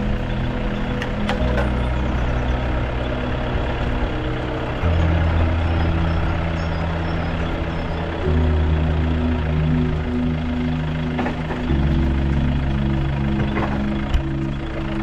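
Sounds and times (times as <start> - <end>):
background music with low chords: 0.0 - 15.0
vehicle driving on rough road: 0.0 - 15.0.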